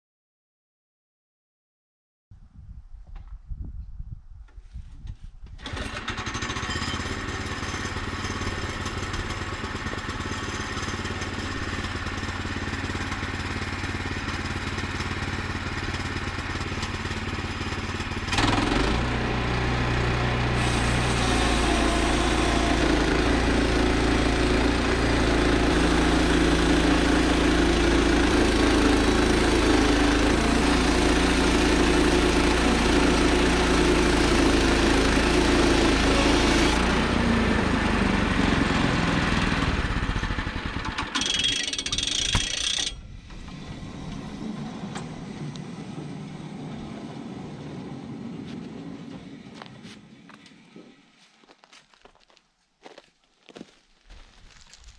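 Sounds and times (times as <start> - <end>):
small gas engine running: 5.5 - 51.3.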